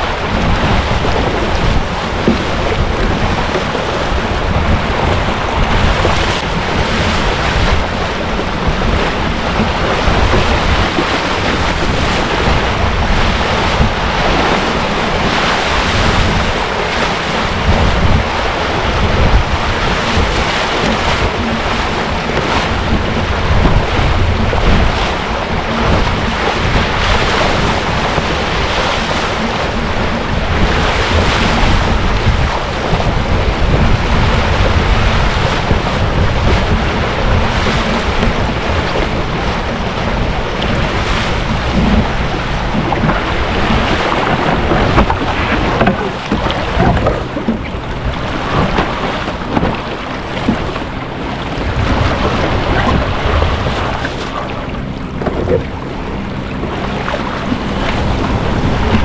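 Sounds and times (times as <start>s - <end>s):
water rushing and splashing: 0.0s - 59.0s
wind buffeting microphone: 0.0s - 59.0s.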